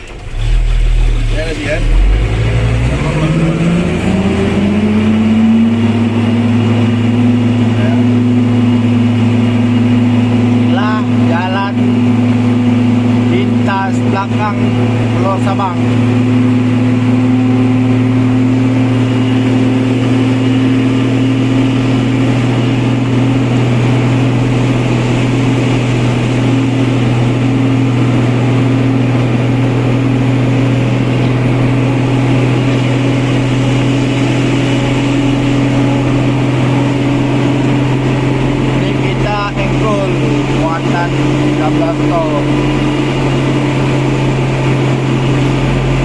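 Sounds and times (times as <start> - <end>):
truck engine droning under load: 0.0 - 46.0.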